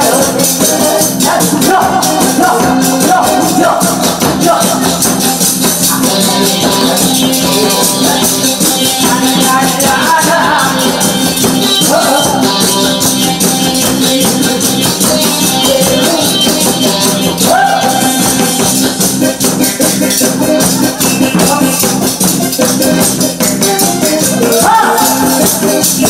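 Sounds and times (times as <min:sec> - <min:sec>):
backing music: 0:00.0 - 0:26.0.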